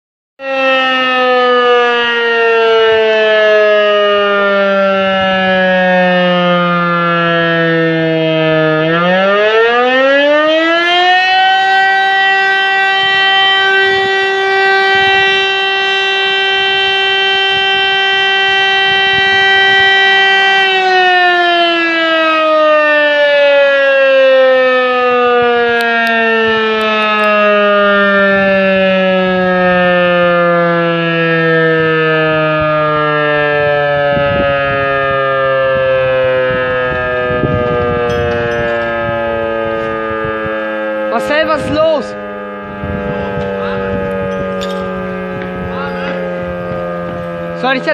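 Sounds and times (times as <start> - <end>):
fire siren wailing: 0.4 - 47.9.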